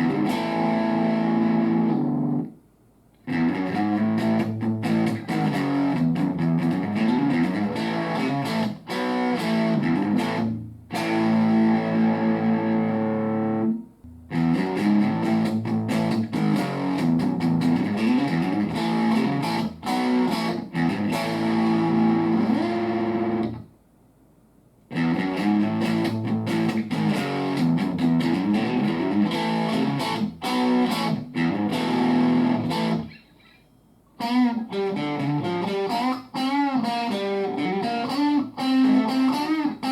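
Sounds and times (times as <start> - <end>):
distorted electric guitar lead: 0.0 - 2.5, 3.3 - 23.6, 24.9 - 39.9.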